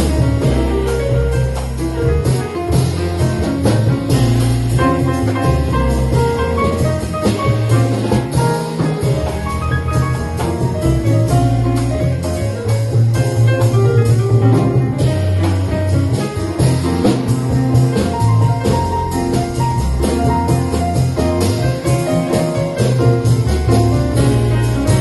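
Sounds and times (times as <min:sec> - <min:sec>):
double bass: 0:00.0 - 0:25.0
drums and cymbals: 0:00.0 - 0:25.0
piano: 0:00.0 - 0:25.0.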